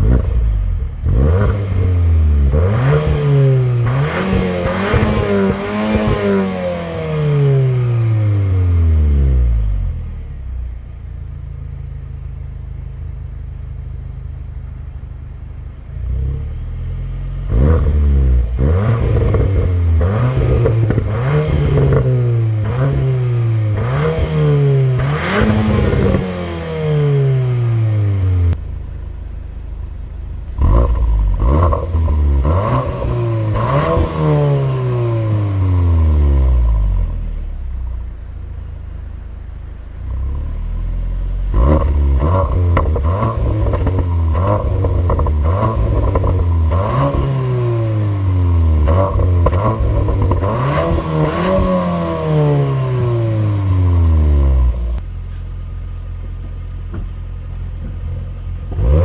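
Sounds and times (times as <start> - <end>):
car engine revving: 0.0 - 28.6, 30.4 - 38.0, 40.0 - 59.0
low engine rumble: 6.8 - 23.9, 24.5 - 59.0.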